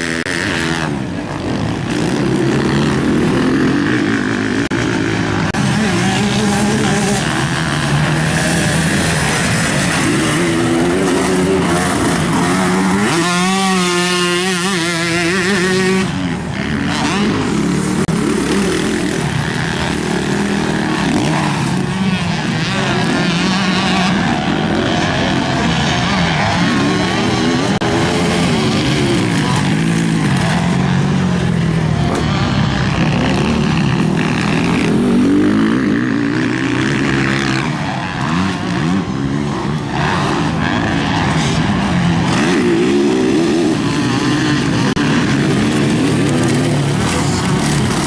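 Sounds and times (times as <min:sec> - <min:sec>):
motocross bike engines revving: 0:00.0 - 0:48.0.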